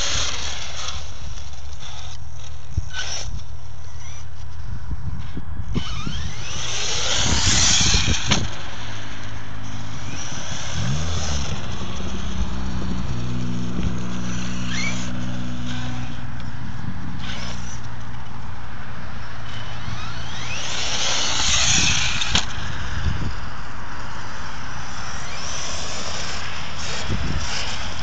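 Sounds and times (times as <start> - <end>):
electric motor whine: 0.0 - 28.0.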